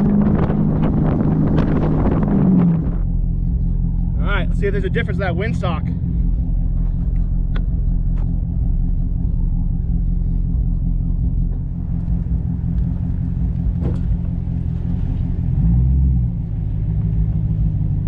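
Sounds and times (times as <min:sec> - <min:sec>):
car engine rumbling while cruising: 0:00.0 - 0:18.0.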